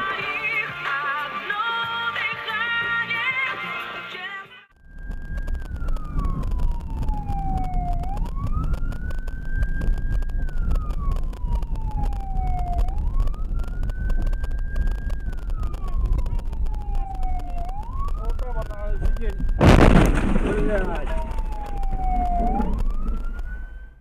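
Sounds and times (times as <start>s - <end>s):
emergency siren wailing: 4.8s - 24.0s
road and engine rumble: 4.8s - 24.0s.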